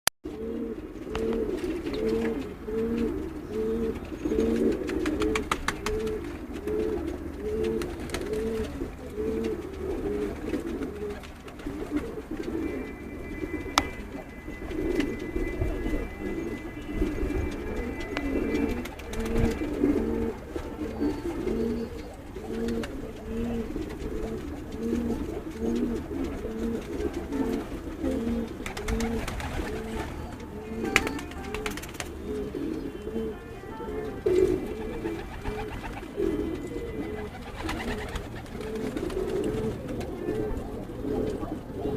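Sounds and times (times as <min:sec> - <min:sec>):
pigeons cooing: 0:00.3 - 0:41.9.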